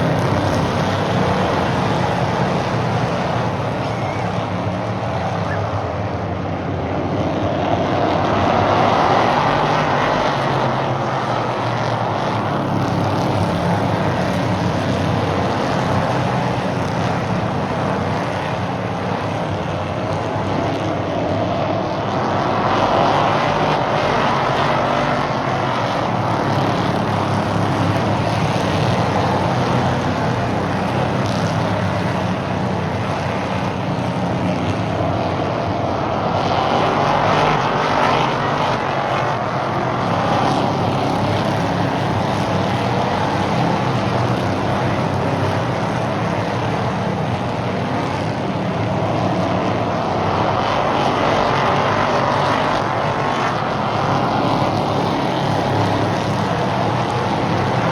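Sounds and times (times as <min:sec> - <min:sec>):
race car engines passing: 0:00.0 - 0:57.9.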